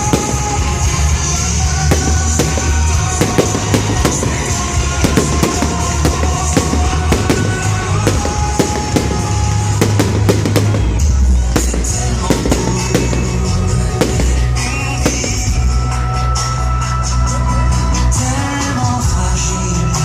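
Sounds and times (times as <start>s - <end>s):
fireworks bangs and crackles: 0.0s - 16.5s
loud music: 0.0s - 20.0s.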